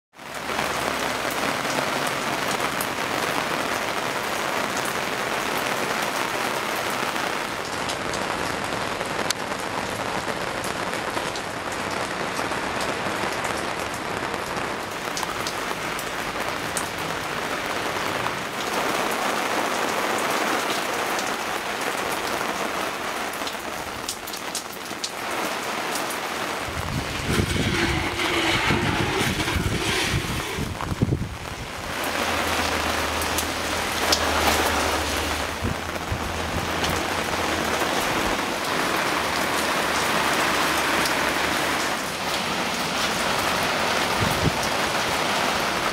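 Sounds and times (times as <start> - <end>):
rain on tiles: 0.1 - 45.9
raindrops ticking: 0.2 - 45.9.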